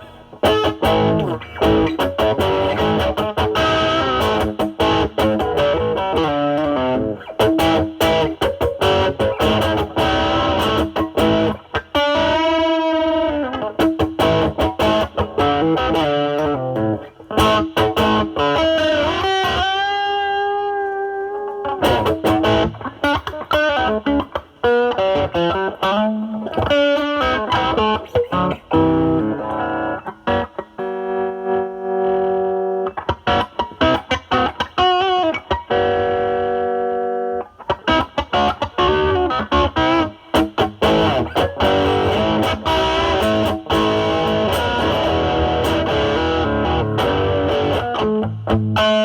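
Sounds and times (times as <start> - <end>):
overdriven electric guitar blues phrases: 0.0 - 49.0.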